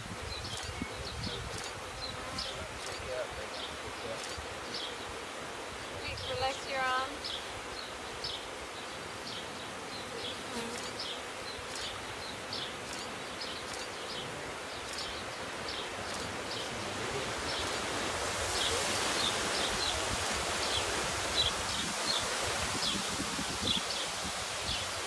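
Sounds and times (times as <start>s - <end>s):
bees buzzing: 0.2s - 25.0s.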